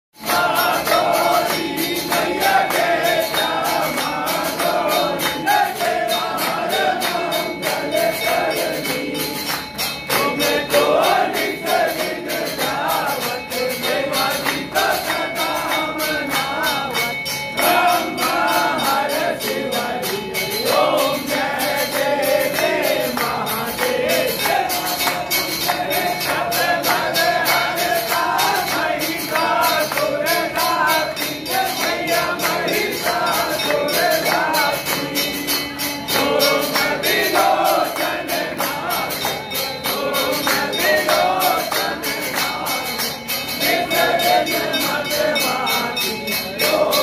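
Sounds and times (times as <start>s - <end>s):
jingling metal percussion: 0.2s - 47.0s
voices singing a hymn: 0.2s - 47.0s.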